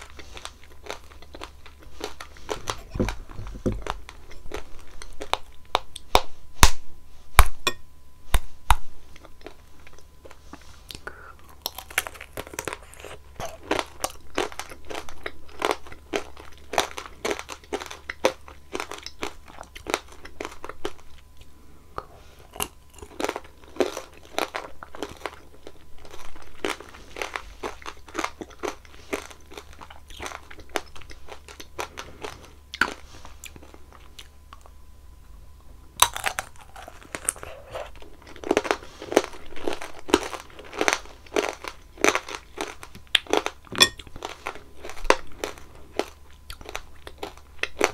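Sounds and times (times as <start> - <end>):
crunching candy glaze: 0.0 - 47.9.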